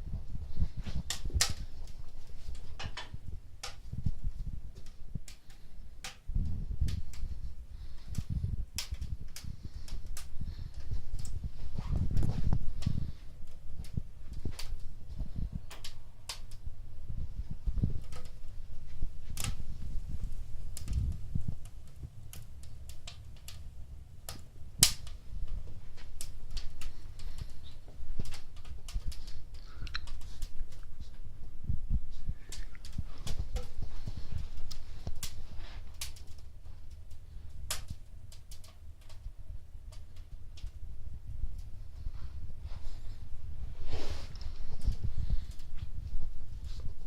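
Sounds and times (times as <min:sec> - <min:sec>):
fire crackling in a fireplace: 0:00.0 - 0:47.0.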